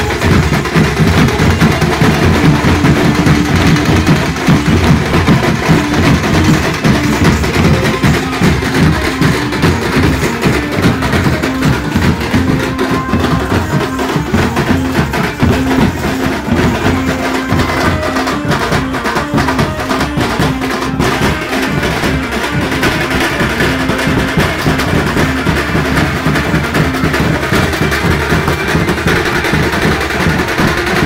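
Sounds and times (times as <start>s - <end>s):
large drums beating fast: 0.0s - 31.0s
pitched instrument playing tune: 0.0s - 31.0s.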